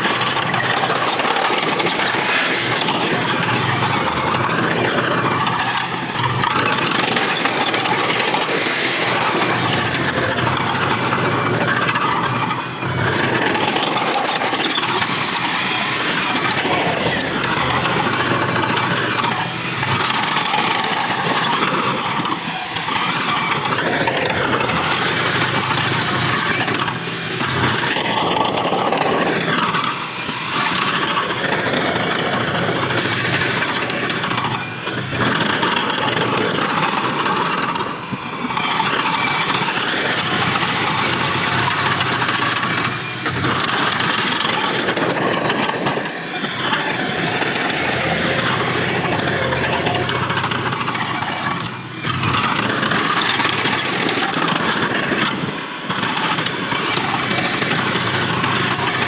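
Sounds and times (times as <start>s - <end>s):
diesel earthmoving machinery: 0.0s - 59.0s.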